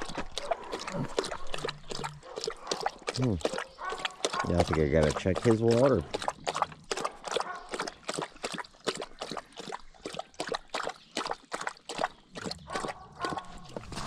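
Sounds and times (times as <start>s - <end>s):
dog lapping water: 0.0s - 14.0s.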